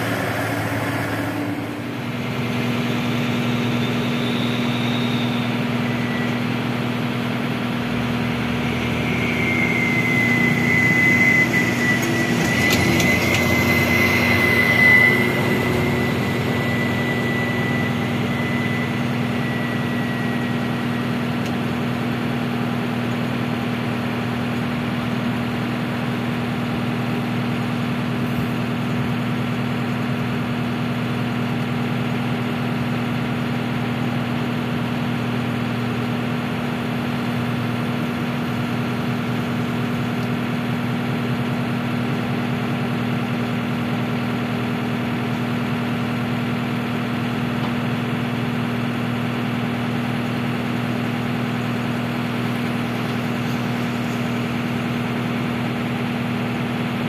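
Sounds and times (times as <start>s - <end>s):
excavator diesel engine hum: 0.0s - 57.0s
truck engine running: 0.0s - 57.0s.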